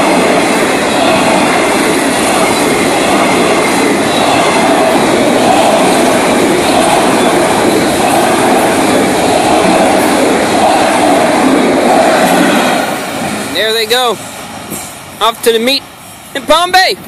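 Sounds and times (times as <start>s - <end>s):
freight train cars rolling past: 0.0s - 17.0s.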